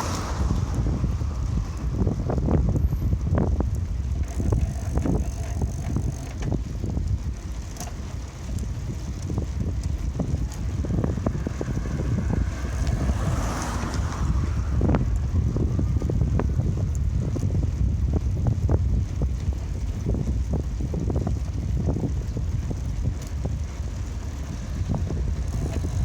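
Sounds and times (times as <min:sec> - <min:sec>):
bicycle rattles and clicks: 0:00.0 - 0:26.0
wind rumbling on microphone: 0:00.0 - 0:26.0.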